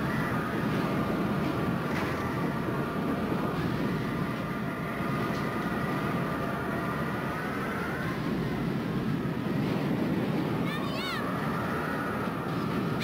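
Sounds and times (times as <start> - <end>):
tornado wind roaring: 0.0 - 13.0.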